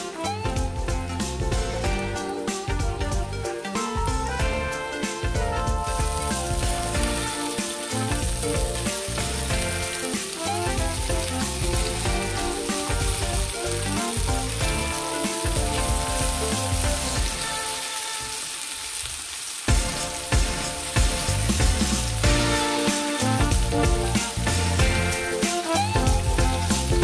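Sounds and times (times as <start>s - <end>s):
chicken sizzling in a pan: 0.0s - 27.0s.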